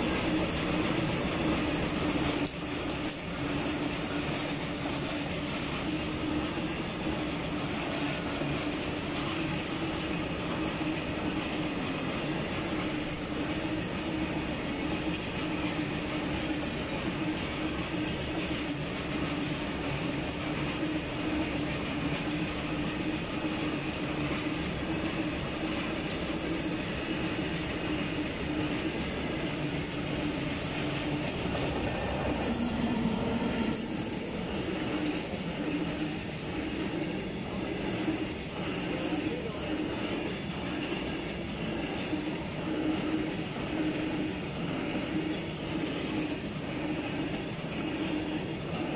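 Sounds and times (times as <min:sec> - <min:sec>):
wheels clattering on rails: 0:00.0 - 0:48.9.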